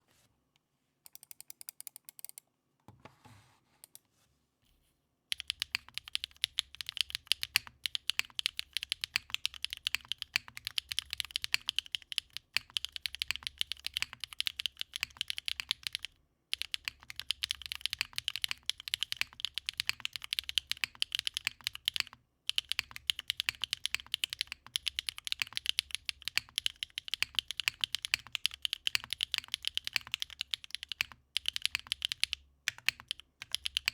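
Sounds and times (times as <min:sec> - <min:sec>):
mechanical keyboard typing: 0:05.3 - 0:33.9.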